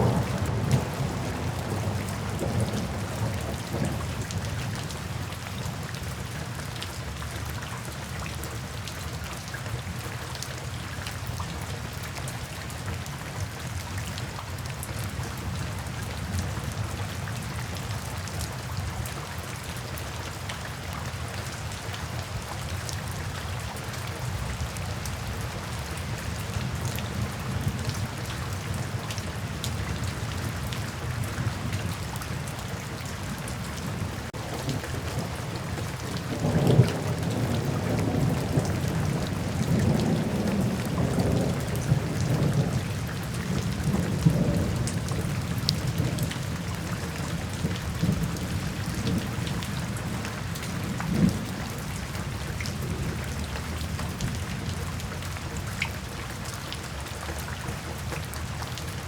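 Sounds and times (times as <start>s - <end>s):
low rain rumble: 0.0s - 59.0s
raindrops ticking on surface: 0.0s - 59.0s.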